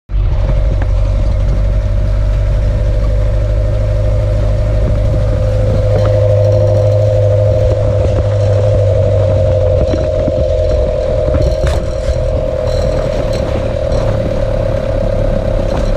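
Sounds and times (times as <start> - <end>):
drivetrain whine: 0.1 - 15.9
engine drone: 0.1 - 15.9.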